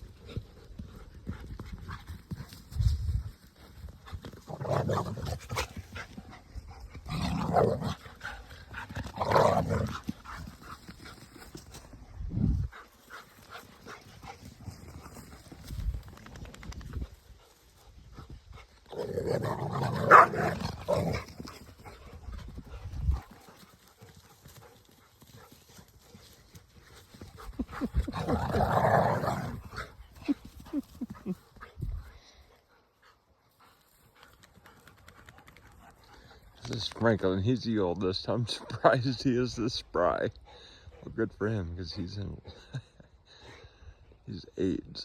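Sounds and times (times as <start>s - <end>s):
dogs playing rough: 0.0s - 36.6s.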